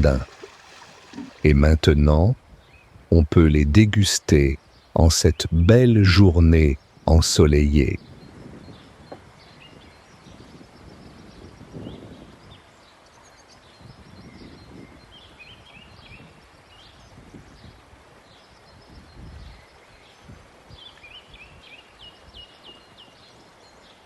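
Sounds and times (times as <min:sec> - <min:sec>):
small birds chirping: 0:04.3 - 0:24.0.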